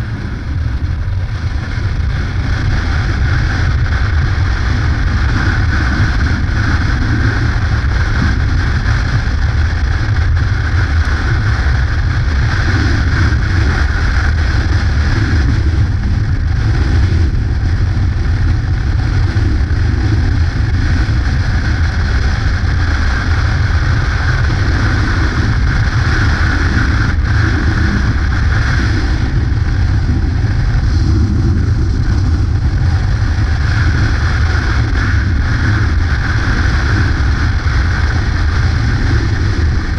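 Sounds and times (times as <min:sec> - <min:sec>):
motorcycle engine running: 0:00.0 - 0:39.9
rushing wind noise: 0:00.0 - 0:39.9.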